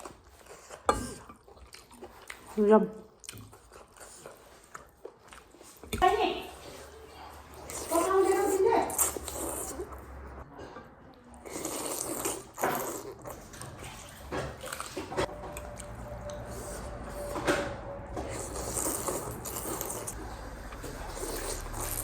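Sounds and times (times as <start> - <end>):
slurping and chewing: 0.0 - 6.0, 6.6 - 17.5, 18.1 - 22.0.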